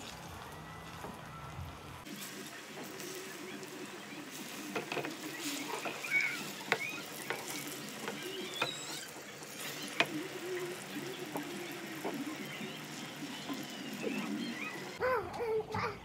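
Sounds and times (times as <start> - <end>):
bananas sizzling in hot oil: 0.0 - 15.0
spatula turning food in pan: 2.0 - 15.0.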